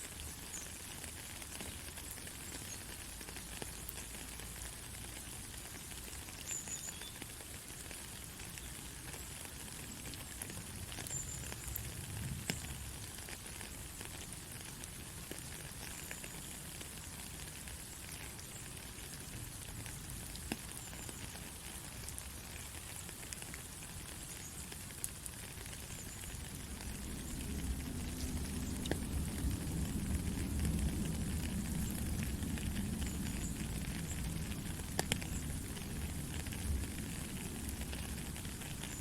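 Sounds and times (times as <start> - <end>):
steady rain hissing: 0.0 - 39.0.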